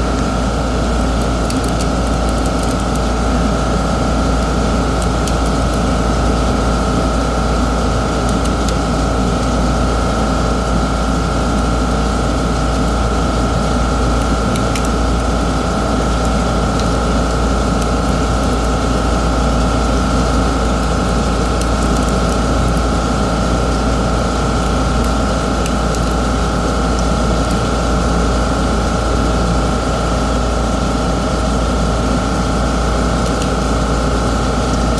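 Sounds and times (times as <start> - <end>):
motor hum with whine: 0.0 - 34.9.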